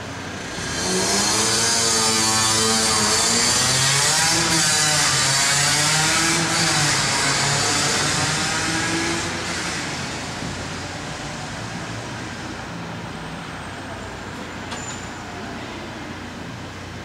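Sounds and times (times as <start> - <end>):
passing vehicle hiss: 0.0 - 3.8, 4.4 - 17.0.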